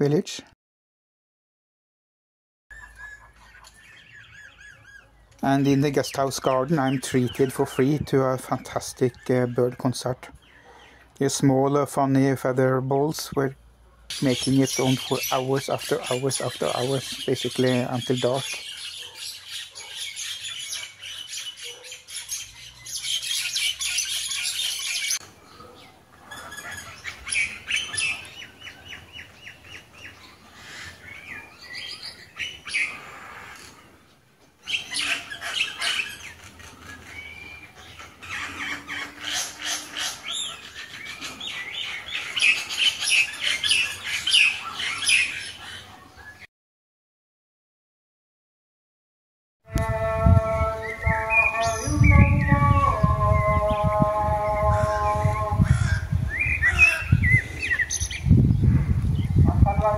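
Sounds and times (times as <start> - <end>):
small birds chirping: 2.7 - 46.5, 54.7 - 59.9.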